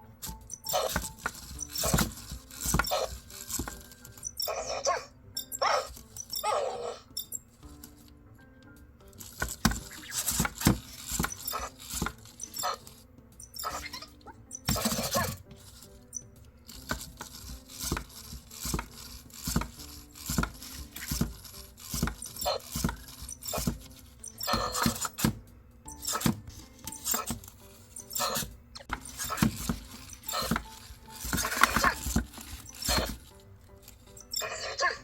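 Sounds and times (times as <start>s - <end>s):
robot clicking and tapping: 0.2s - 4.8s, 9.1s - 34.5s.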